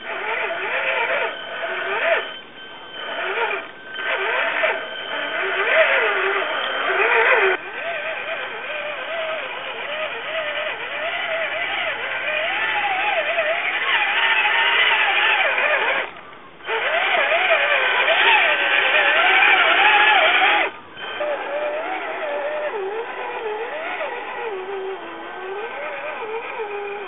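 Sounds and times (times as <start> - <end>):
electric motor and gearbox whining: 0.0 - 27.0.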